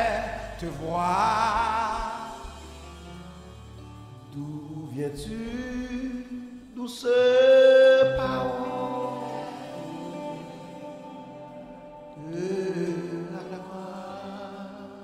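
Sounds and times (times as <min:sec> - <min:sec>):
man singing gospel: 0:00.0 - 0:03.2, 0:04.1 - 0:15.0
soft instrumental backing: 0:00.0 - 0:15.0.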